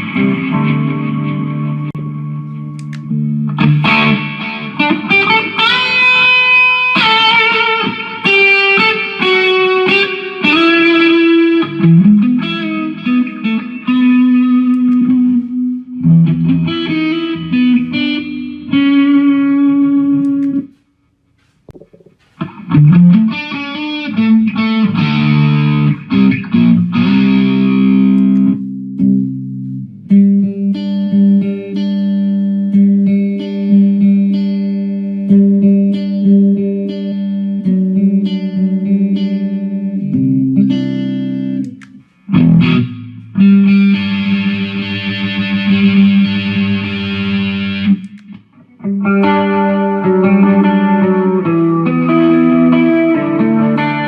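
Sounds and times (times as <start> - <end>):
electric guitar with effects: 0.0 - 54.0.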